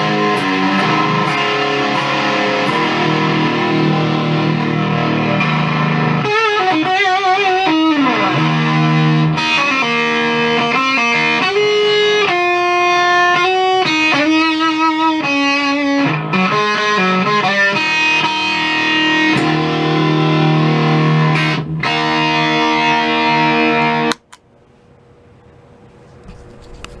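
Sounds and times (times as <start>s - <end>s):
fuzzed electric guitar: 0.0s - 24.4s.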